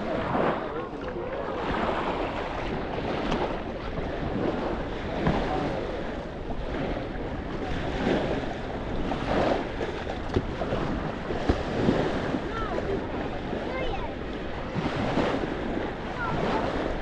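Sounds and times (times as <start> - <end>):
faint voices of beachgoers: 0.0 - 17.0
surf washing ashore: 0.0 - 17.0
wind buffeting microphone: 0.0 - 17.0.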